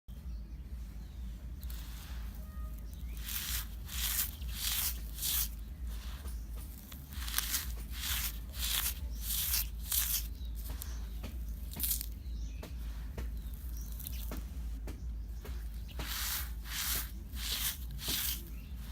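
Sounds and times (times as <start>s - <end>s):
steady low hum: 0.1s - 18.9s
sand crumbling: 1.6s - 14.8s, 15.4s - 18.9s.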